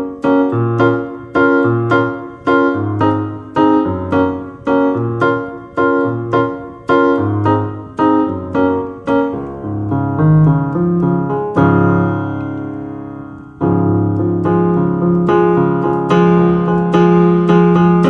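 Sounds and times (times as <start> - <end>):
solo piano: 0.0 - 18.0.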